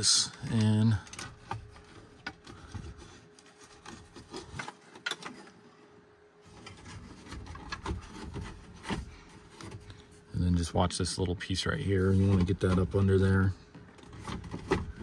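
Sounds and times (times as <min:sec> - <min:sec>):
plastic rubbing: 0:00.0 - 0:05.7, 0:06.4 - 0:10.4, 0:11.1 - 0:15.0.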